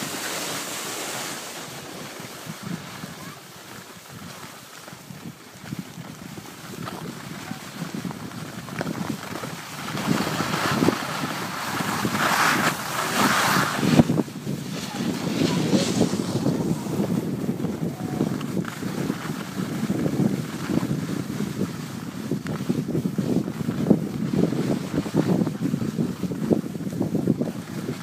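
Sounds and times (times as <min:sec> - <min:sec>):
skis scraping over snow: 0:00.0 - 0:28.0
wind buffeting microphone: 0:04.0 - 0:28.0.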